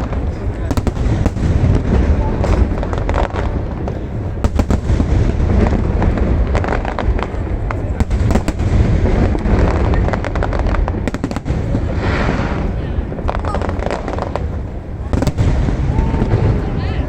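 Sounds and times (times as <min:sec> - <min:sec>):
deep rumble of shell bursts: 0:00.0 - 0:17.0
fireworks bangs and crackles: 0:00.0 - 0:17.0.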